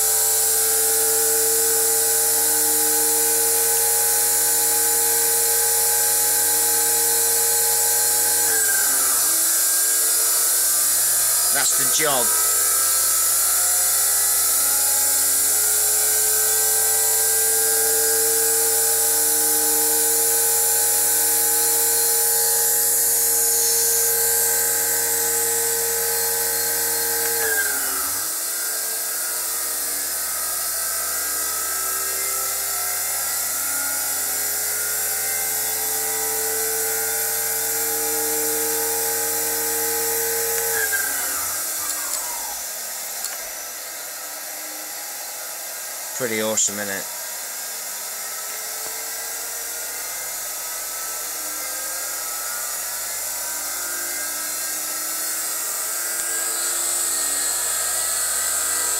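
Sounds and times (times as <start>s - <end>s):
electric motor whine and hum: 0.0s - 58.9s.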